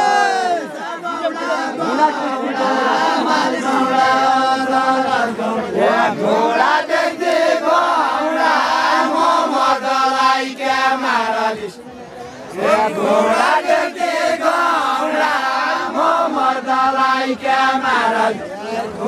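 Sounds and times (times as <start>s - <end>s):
men singing folk song: 0.0s - 11.7s, 12.5s - 19.0s.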